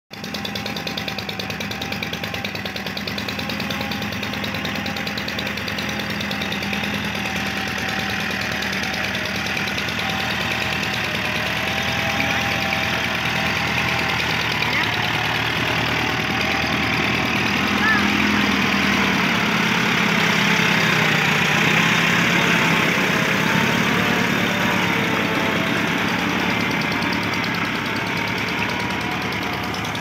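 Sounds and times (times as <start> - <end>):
tractor diesel engine throbbing: 0.1 - 30.0.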